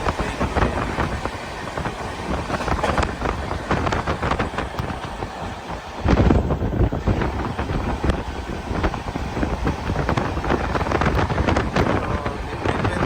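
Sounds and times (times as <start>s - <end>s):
gusting thumps: 0.0s - 13.0s
wind buffeting microphone: 0.0s - 13.0s.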